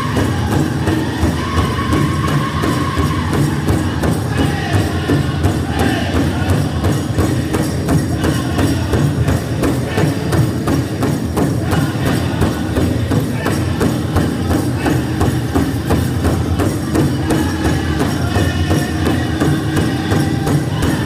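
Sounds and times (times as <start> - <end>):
big drum beating: 0.0 - 21.0
group singing: 0.0 - 21.0.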